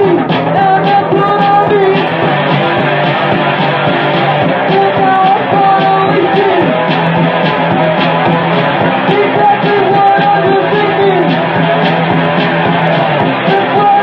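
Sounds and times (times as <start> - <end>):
pitch-bending melody line: 0.0 - 14.0
rock band playing: 0.0 - 14.0.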